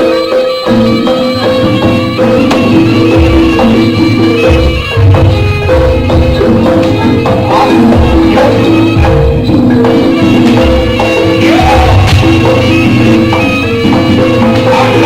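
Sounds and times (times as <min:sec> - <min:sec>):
metallophone notes: 0:00.0 - 0:15.0
low drum beats: 0:00.7 - 0:15.0.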